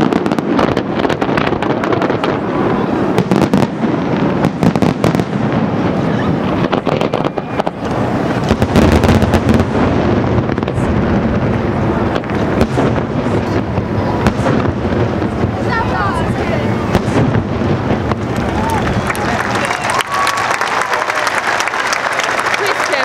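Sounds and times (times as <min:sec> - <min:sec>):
low firework booms: 0:00.0 - 0:19.6
fireworks crackling and popping: 0:00.0 - 0:23.0.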